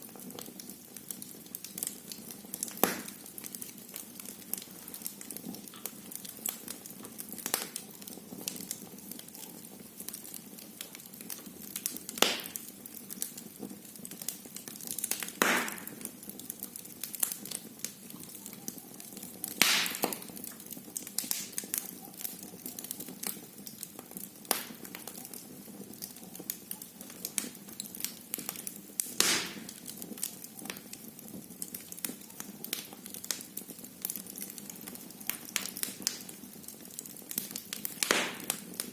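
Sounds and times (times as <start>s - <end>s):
fire popping: 0.0s - 38.9s
wood fire crackling: 0.0s - 38.9s.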